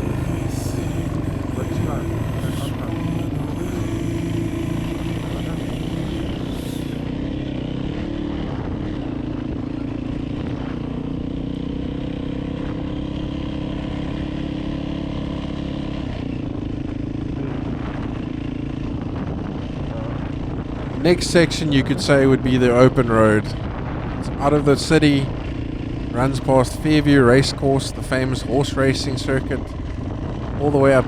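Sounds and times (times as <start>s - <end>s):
vehicle engine droning: 0.0s - 31.0s.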